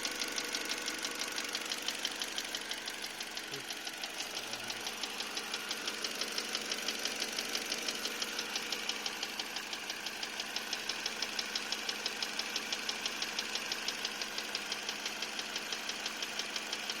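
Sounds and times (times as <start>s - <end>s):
car engine idling: 0.0s - 17.0s
rhythmic engine knock: 0.0s - 17.0s.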